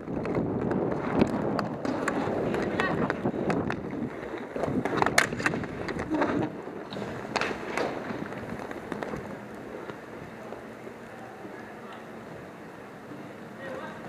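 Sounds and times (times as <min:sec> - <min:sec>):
hockey sticks and puck clacking: 0:00.0 - 0:12.2
skate wheels rolling on rink floor: 0:00.0 - 0:14.0.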